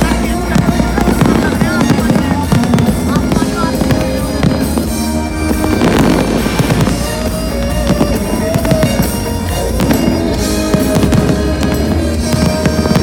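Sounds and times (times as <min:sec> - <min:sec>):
fireworks bursting and crackling: 0:00.0 - 0:13.0
music soundtrack: 0:00.0 - 0:13.0.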